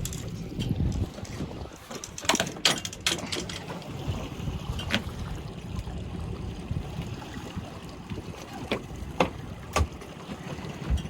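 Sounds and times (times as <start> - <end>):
water sloshing: 0.0 - 11.0
wind rumbling on microphone: 0.0 - 11.0.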